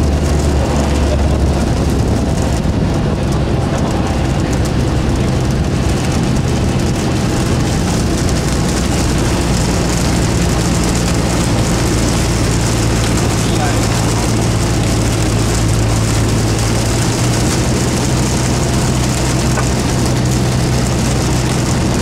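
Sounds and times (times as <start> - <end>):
aircraft engine and propeller droning: 0.0 - 22.0
rain on airframe: 0.0 - 22.0
rush of airflow: 0.0 - 22.0.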